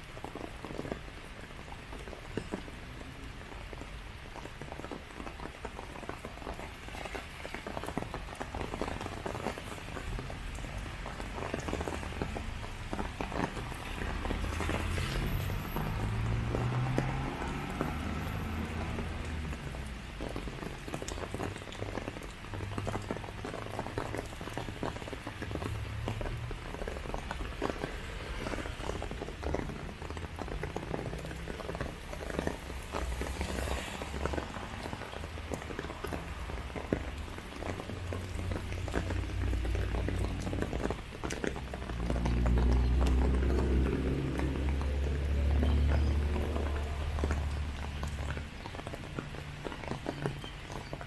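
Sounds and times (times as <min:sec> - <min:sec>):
rain on ground and leaves: 0:00.0 - 0:51.0.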